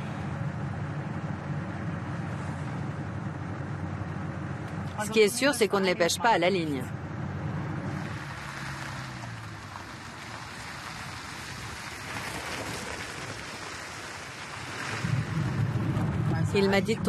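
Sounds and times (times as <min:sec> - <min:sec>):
low engine hum: 0:00.0 - 0:17.0
wind and road noise: 0:00.0 - 0:17.0.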